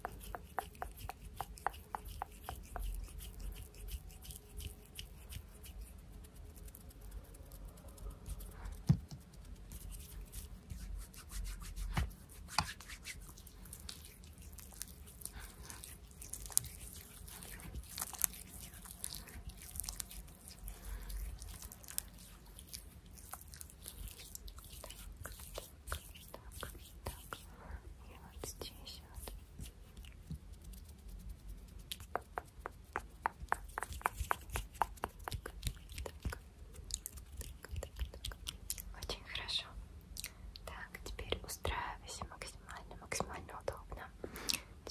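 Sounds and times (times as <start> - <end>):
hands rubbing and rustling: 0.0 - 38.9.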